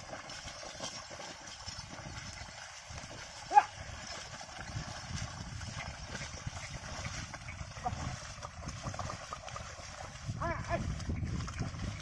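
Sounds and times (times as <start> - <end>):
sloshing and squelching in mud: 0.0 - 12.0.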